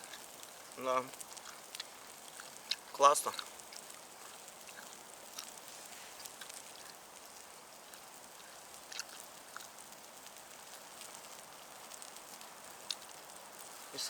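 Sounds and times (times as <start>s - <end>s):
campfire crackling: 0.0s - 14.0s
steady low hiss: 0.0s - 14.0s.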